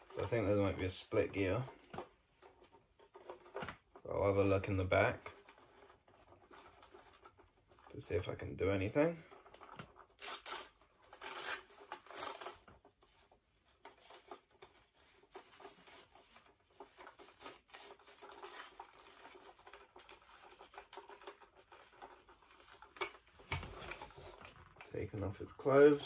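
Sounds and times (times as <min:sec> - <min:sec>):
faint rubbing and scratching: 0:00.0 - 0:26.0.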